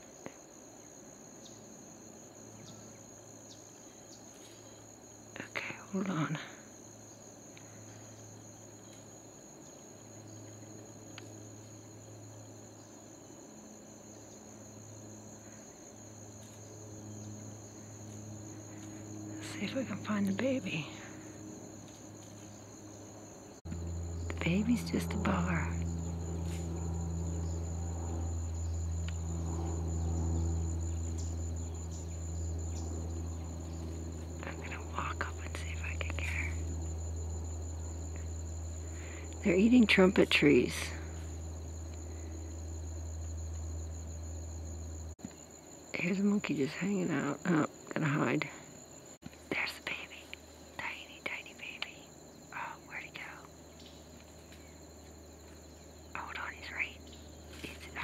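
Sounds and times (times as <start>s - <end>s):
faint low hum: 0.0s - 58.0s
insects chirring: 0.0s - 58.0s.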